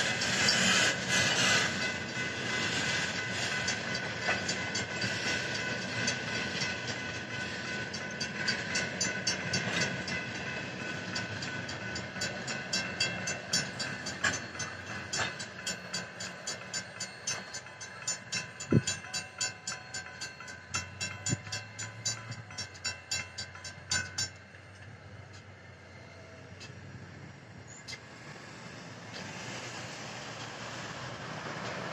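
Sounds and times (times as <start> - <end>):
railroad crossing bells ringing: 0.0 - 26.6
freight train rolling: 0.0 - 31.9.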